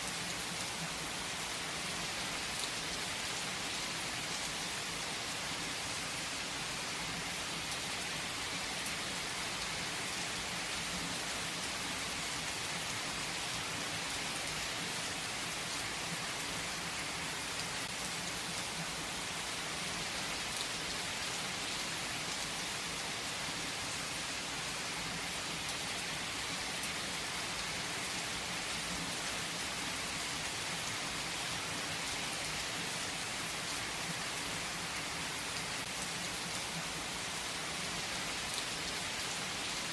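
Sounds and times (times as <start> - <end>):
heavy rain on a tree: 0.0 - 39.9.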